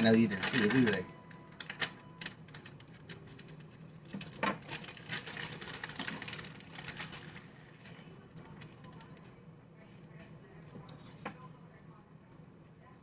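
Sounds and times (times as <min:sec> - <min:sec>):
crackly rustling: 0:00.0 - 0:13.0.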